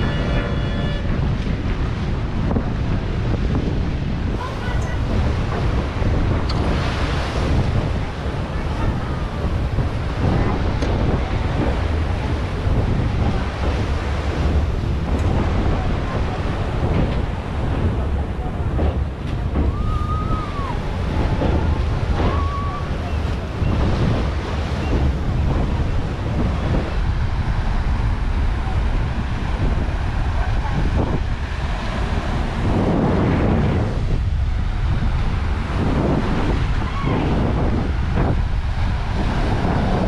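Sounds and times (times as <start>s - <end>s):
churning sea water: 0.0s - 40.0s
wind rushing over microphone: 0.0s - 40.0s.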